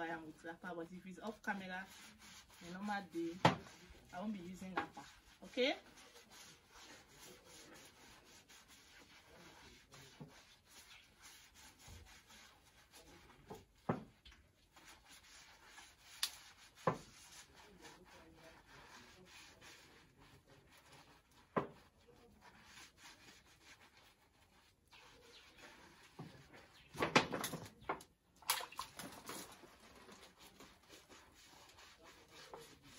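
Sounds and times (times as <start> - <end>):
sponge scrubbing skin: 0.1 - 13.8, 14.6 - 26.9, 28.9 - 32.9.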